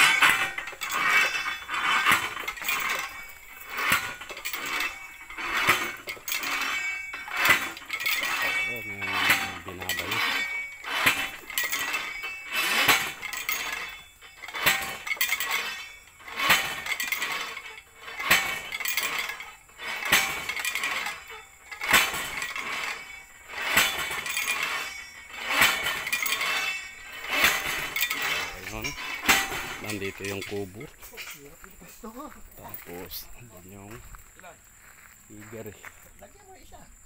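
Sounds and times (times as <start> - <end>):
weight clanking on metal pipe: 0.0 - 31.6.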